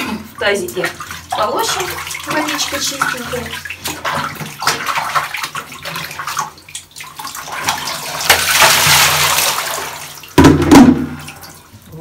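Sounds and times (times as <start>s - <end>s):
water rushing from tipped basin: 0.0s - 12.0s
water splashing in plastic basin: 0.0s - 12.0s.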